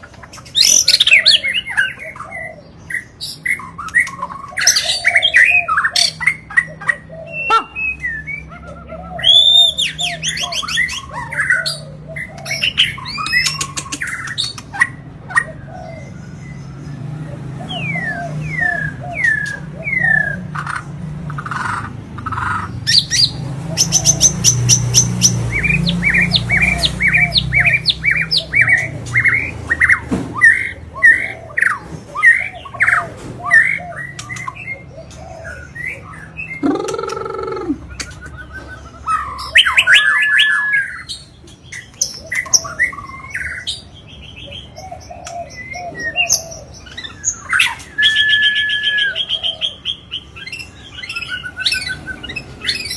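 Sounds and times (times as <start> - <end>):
songbird singing varied song: 0.0 - 52.9.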